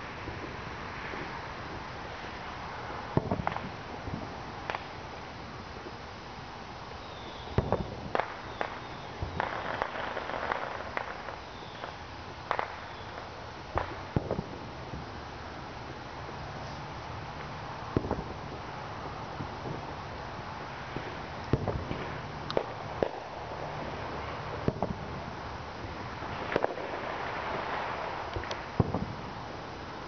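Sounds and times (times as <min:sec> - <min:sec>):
fireworks popping and banging: 0:00.0 - 0:06.0, 0:07.4 - 0:29.7
fireworks crackling: 0:00.0 - 0:30.0.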